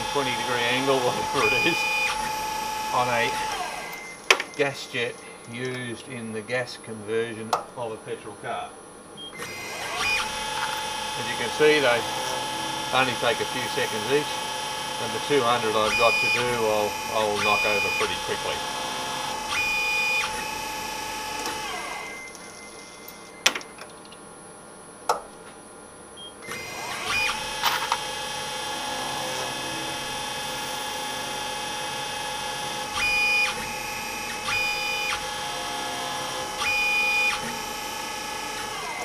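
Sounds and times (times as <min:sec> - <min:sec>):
milling machine whine: 0:00.0 - 0:07.5, 0:09.3 - 0:24.1, 0:26.4 - 0:39.0.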